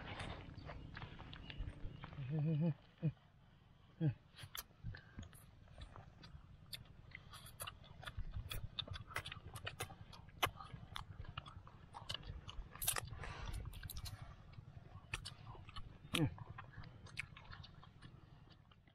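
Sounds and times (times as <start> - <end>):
low steady rumble: 0.0 - 18.9
people chewing and crunching: 0.0 - 18.9.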